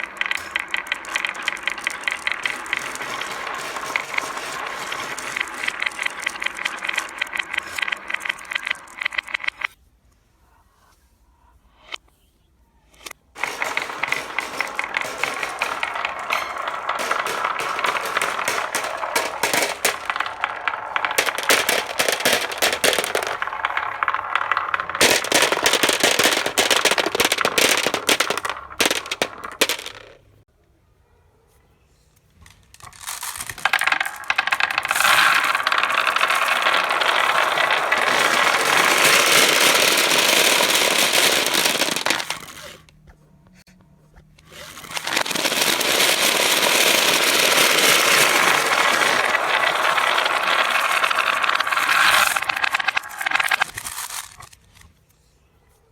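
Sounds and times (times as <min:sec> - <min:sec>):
marbles rattling down wooden run: 0:00.0 - 0:09.7, 0:13.4 - 0:30.2, 0:32.4 - 0:42.9, 0:44.5 - 0:54.8.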